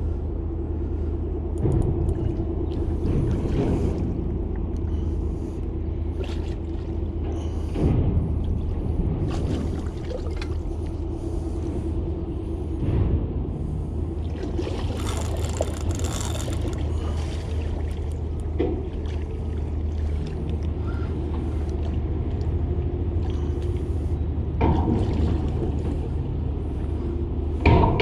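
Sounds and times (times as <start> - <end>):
boat motor humming: 0.0 - 12.8, 13.6 - 24.6.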